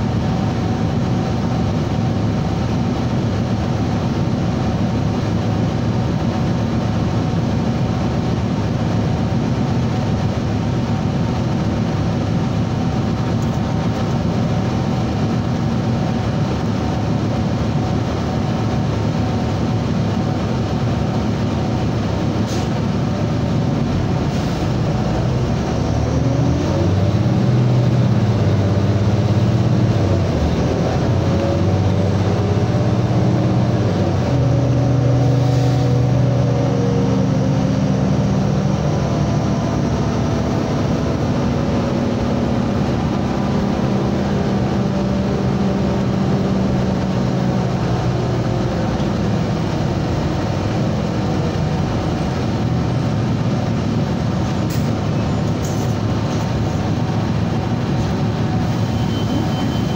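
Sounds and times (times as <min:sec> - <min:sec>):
bus engine drone: 0:00.0 - 0:59.9
road and tyre noise: 0:00.0 - 0:59.9.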